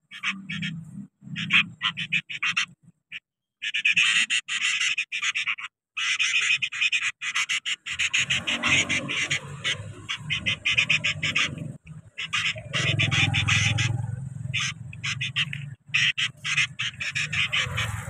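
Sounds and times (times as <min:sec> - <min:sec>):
nestlings chirping harshly: 0:00.0 - 0:18.0.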